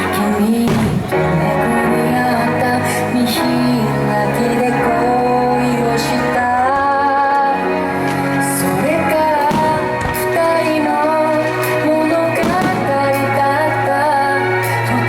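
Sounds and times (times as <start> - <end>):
pop song playing: 0.0 - 15.0.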